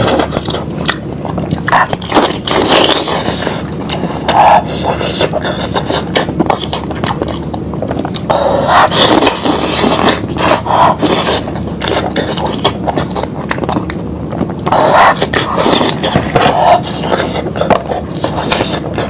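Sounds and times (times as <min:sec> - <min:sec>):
meat being chewed: 0:00.0 - 0:19.0.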